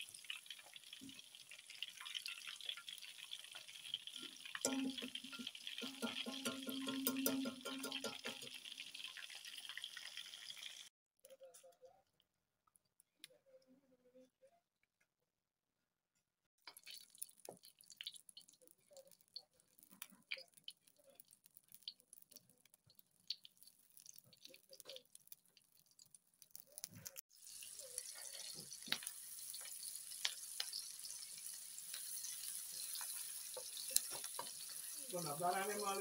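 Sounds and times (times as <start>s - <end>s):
butter sizzling: 0.0s - 10.9s, 16.6s - 36.0s
garlic frying in butter: 0.0s - 10.9s, 16.6s - 36.0s.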